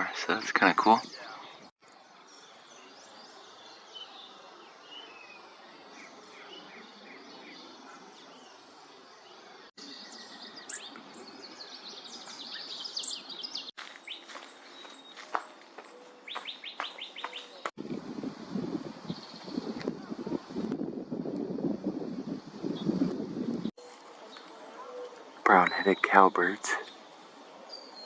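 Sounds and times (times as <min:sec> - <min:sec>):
songbirds singing and calling: 0:00.0 - 0:17.8, 0:18.4 - 0:20.8, 0:22.0 - 0:28.0.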